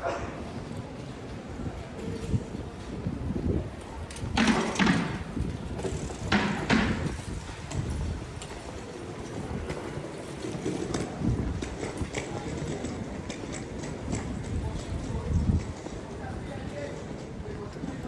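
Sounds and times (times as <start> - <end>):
background murmur: 0.0 - 18.0.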